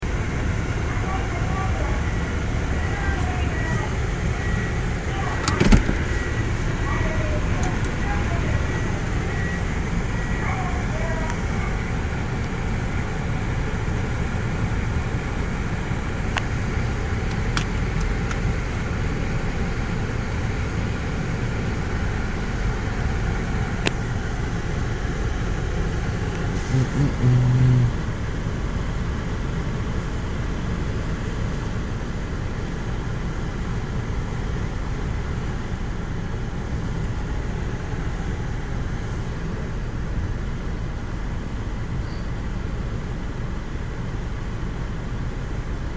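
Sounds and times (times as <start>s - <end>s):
car wash machine rumbling: 0.0s - 45.9s
loud low hum: 0.0s - 45.9s.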